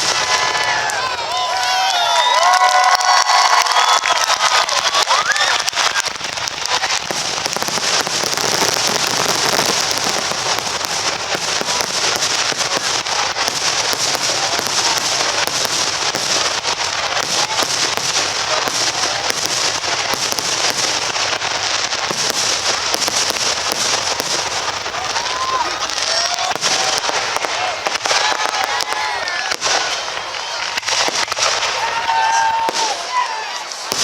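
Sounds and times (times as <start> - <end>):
aerial fireworks crackling: 0.0 - 34.0.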